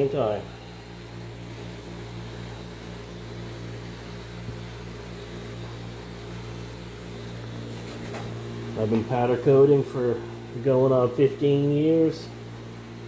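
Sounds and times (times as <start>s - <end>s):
pulsing machine hum: 0.0s - 13.0s.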